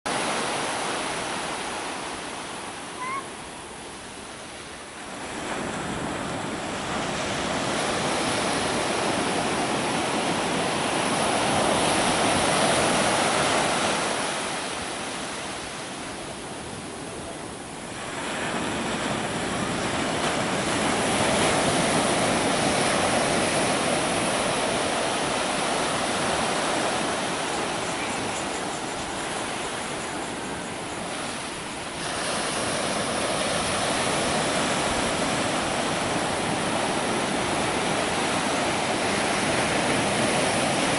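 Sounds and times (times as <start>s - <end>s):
waves breaking on shore: 0.1s - 40.9s.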